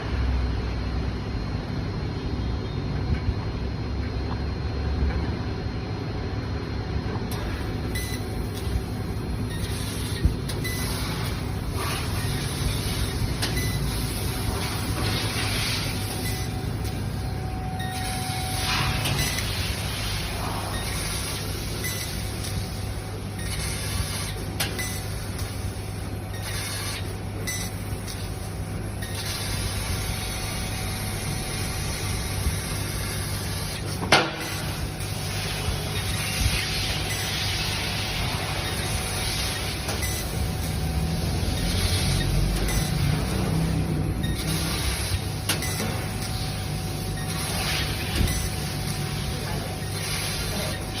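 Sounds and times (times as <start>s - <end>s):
laser cutting machine humming: 0.0s - 51.0s.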